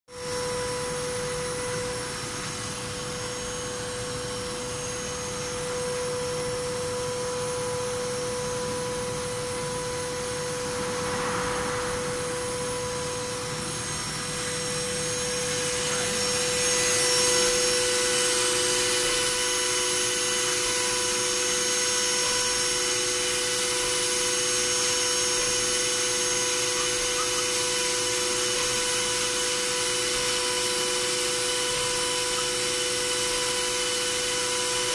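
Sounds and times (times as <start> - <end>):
milling machine whine: 0.1 - 34.9
end mill cutting metal: 1.0 - 34.9.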